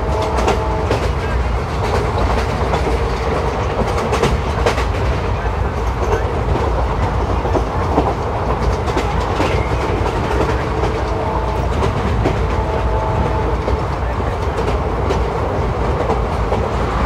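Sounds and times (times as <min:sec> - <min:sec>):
wheel and rail rumble: 0:00.0 - 0:17.0
wheels clicking over rail joints: 0:00.2 - 0:16.7.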